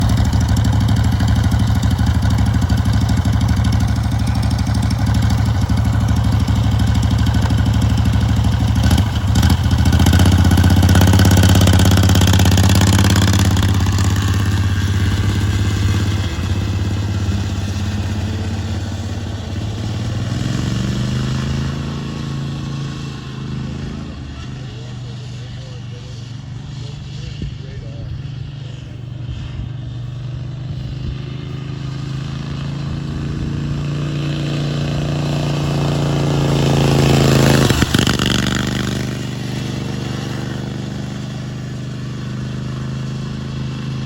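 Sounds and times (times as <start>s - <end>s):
lawnmower engine running: 0.0s - 44.0s.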